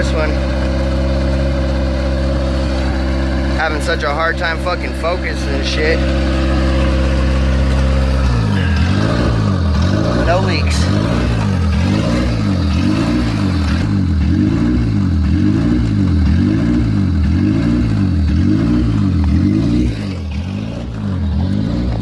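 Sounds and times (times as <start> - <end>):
car engine hunting idle: 0.0 - 22.0.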